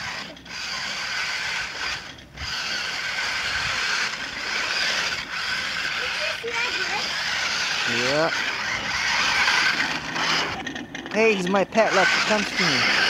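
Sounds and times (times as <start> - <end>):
toy truck motor whirring: 0.0 - 13.0.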